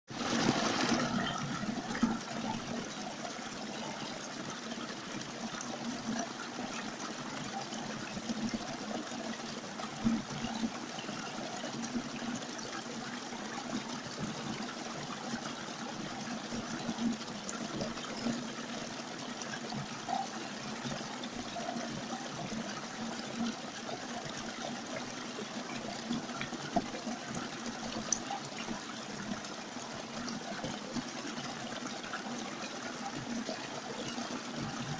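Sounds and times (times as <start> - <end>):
stream splashing over rocks: 0.1 - 34.9.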